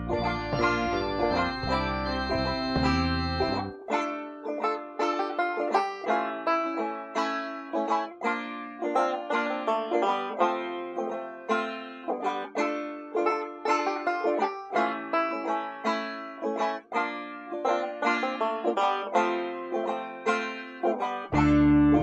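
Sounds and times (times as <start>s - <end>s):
banjo-like plucked string solo: 0.0s - 22.0s.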